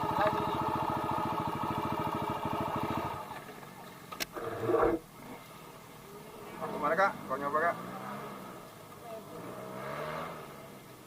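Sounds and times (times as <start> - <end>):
dirt bike engine idling: 0.0 - 9.2.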